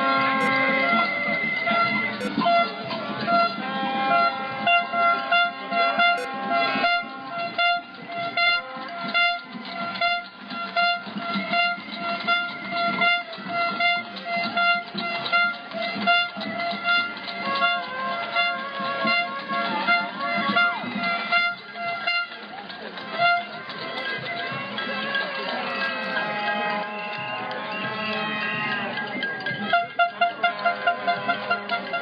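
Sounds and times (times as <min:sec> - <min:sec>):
horns blowing long notes: 0:00.0 - 0:32.0
fast banging and drumming: 0:04.6 - 0:32.0.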